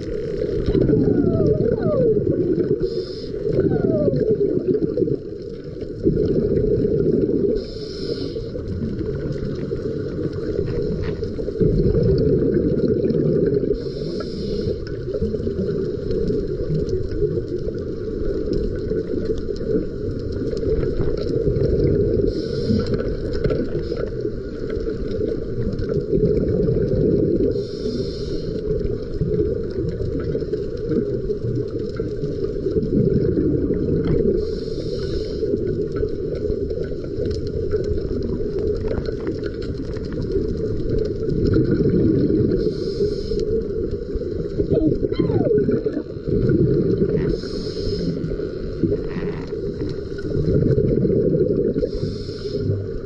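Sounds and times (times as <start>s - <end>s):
boat engines rumbling underwater: 0.0s - 53.0s.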